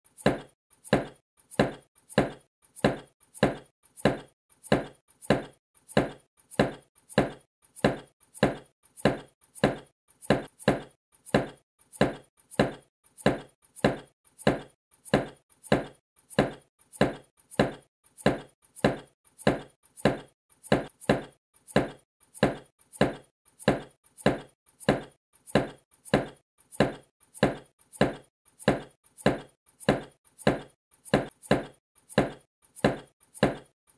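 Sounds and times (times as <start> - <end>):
knife chopping carrot on wood: 0.1 - 33.7.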